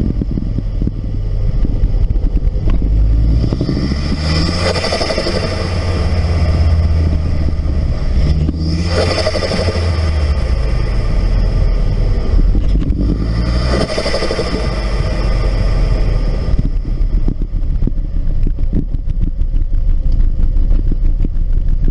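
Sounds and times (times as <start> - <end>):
turbocharged engine revving: 0.0 - 21.9.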